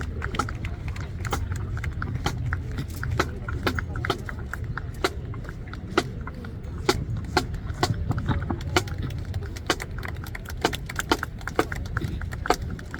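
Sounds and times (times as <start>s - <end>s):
sharp taps and clicks: 0.0s - 12.9s
steady low rumble: 0.0s - 12.9s.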